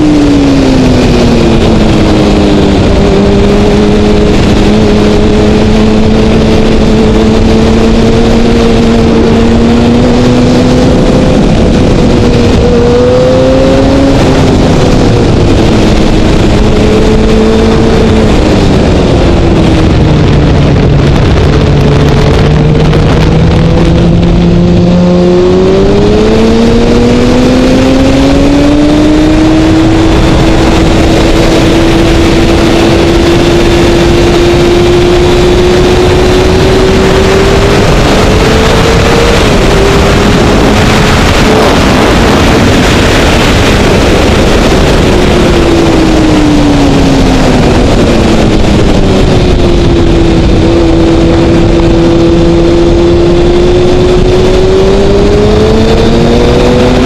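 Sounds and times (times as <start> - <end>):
motorcycle engine at speed: 0.0 - 57.0
wind rushing on microphone: 0.0 - 57.0.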